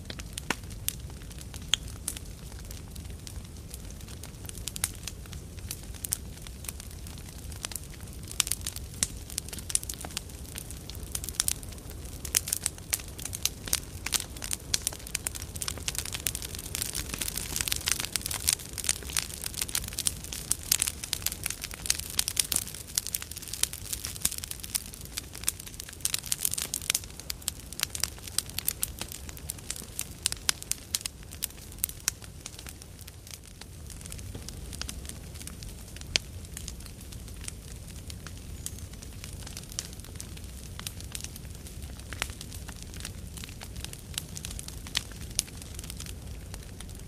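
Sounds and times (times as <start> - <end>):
low rumble of flames: 0.0 - 47.0
wood crackling and popping: 0.0 - 47.0.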